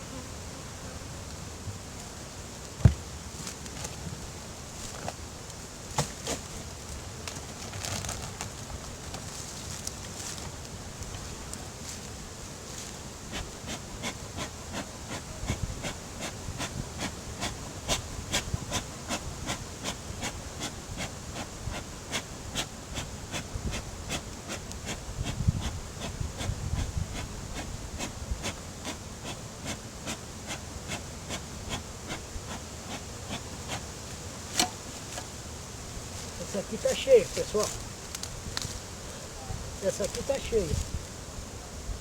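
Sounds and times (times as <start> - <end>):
honeybees buzzing: 0.0 - 42.0.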